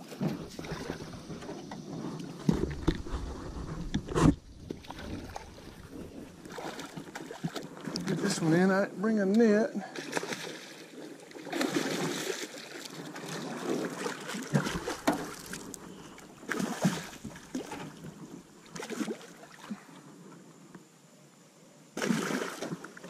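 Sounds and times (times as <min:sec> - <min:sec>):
fish splashing water: 0:00.0 - 0:08.2, 0:10.0 - 0:19.8, 0:22.0 - 0:23.0.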